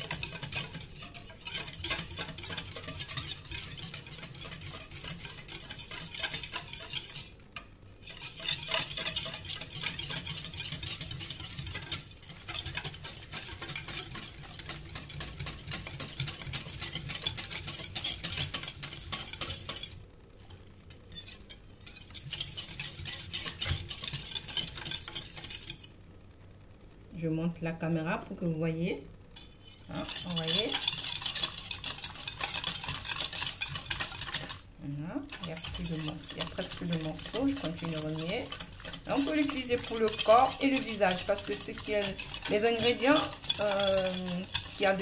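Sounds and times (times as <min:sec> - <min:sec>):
wire whisk stirring in metal bowl: 0:00.0 - 0:26.0, 0:29.4 - 0:45.0.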